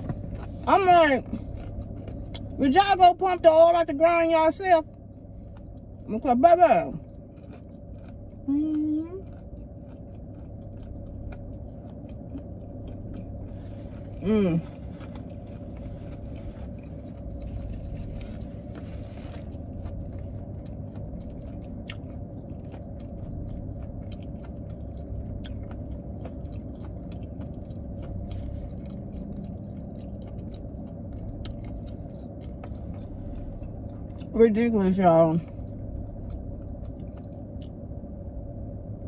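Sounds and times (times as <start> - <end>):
chewing crunchy food: 0.0 - 2.8, 4.8 - 6.1, 6.9 - 34.4, 35.4 - 37.8
car interior hum: 0.0 - 39.0.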